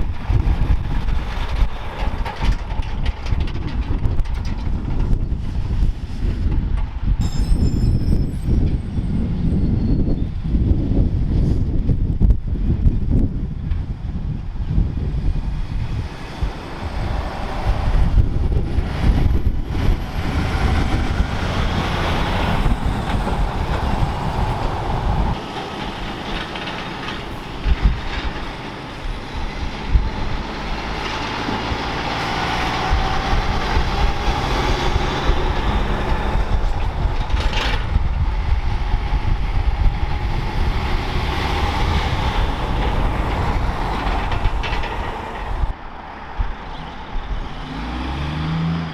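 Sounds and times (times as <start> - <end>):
heavy vehicles rumbling past: 0.0 - 48.9.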